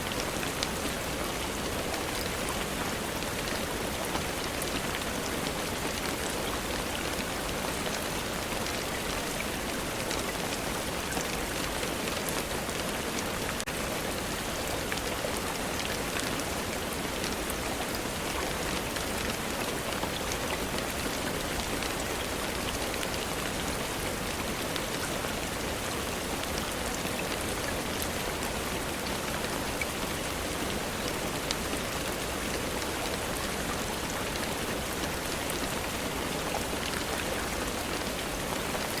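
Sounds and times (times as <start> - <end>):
steady rainfall: 0.0 - 39.0.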